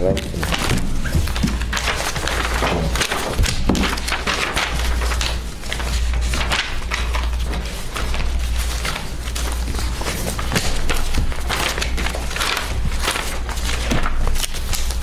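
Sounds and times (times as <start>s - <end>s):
paper rustling: 0.0s - 15.0s
steady low hum: 0.0s - 15.0s.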